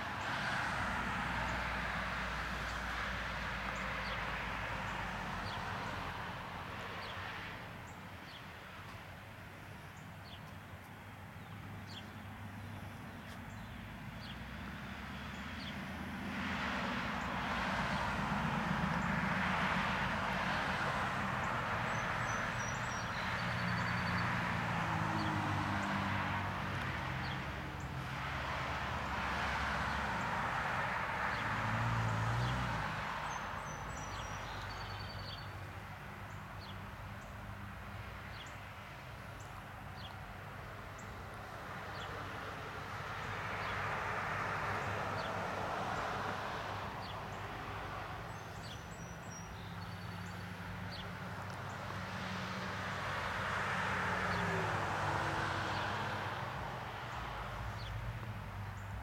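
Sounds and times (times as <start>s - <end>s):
distant road traffic: 0.0s - 59.0s.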